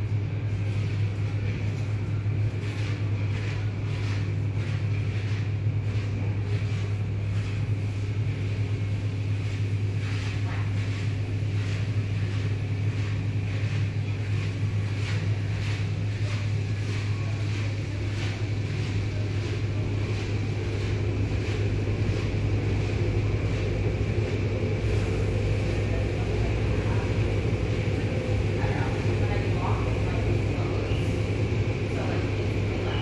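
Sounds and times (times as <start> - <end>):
car wash machine hum: 0.0 - 33.0
cloth strips swishing on car: 0.5 - 33.0.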